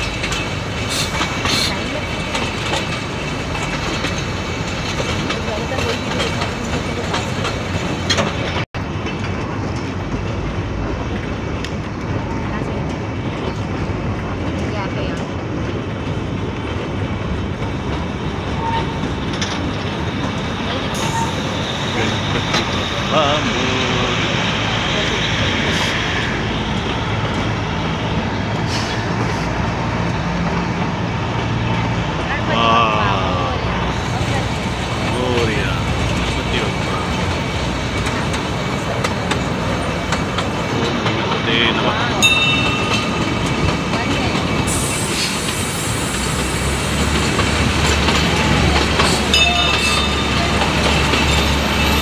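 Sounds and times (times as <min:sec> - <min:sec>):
train wheels on track: 0:00.0 - 0:52.0.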